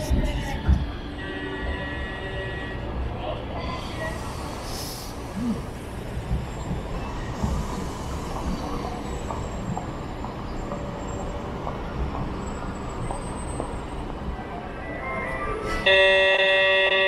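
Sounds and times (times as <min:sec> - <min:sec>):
tram rumbling on track: 0:00.0 - 0:17.0.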